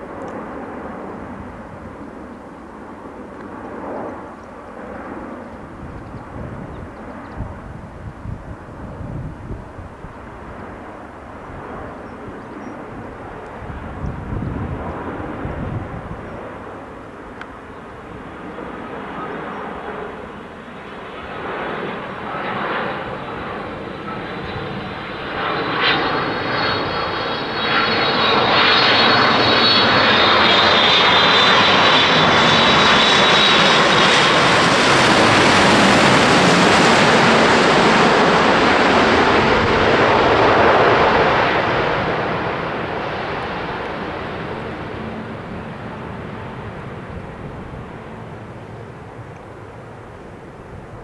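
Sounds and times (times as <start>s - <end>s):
aircraft engine roar passing: 0.0s - 51.0s.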